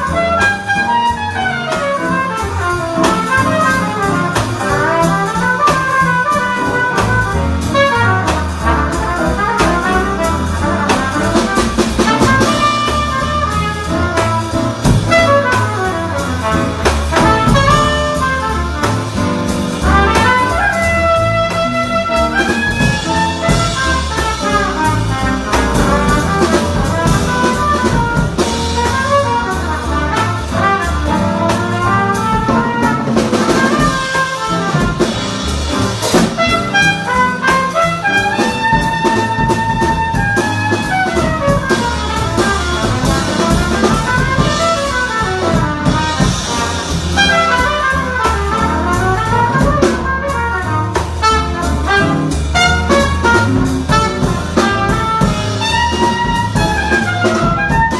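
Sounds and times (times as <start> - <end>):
bass: 0.0 - 57.9
drum kit: 0.0 - 57.9
horns playing jazz melody: 0.0 - 57.9.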